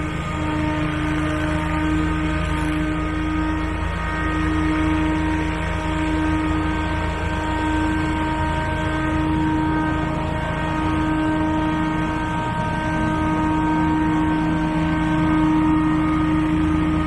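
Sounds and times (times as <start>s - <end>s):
landscaping equipment engine running: 0.0s - 17.0s.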